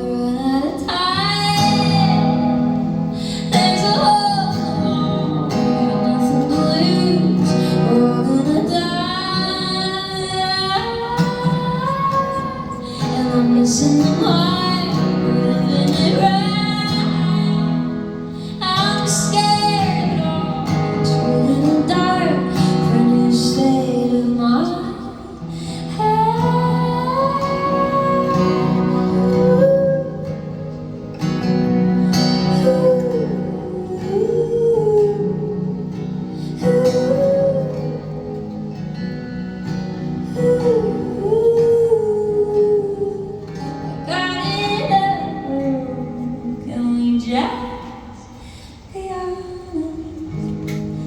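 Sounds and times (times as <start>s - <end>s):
person singing: 0.0s - 30.9s, 31.9s - 38.8s, 40.2s - 48.3s
acoustic guitar playing: 0.0s - 51.0s.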